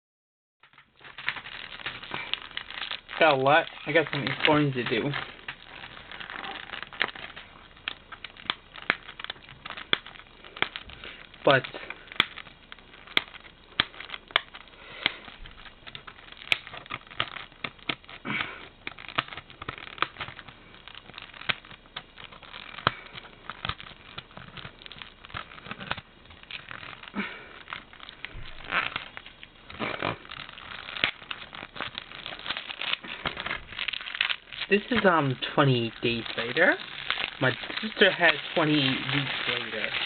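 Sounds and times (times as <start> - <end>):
plastic wrapping crinkling: 0.6 - 40.0.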